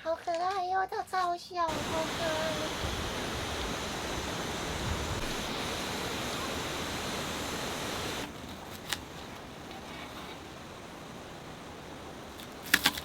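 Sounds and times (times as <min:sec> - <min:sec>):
river water rushing: 0:01.7 - 0:13.0.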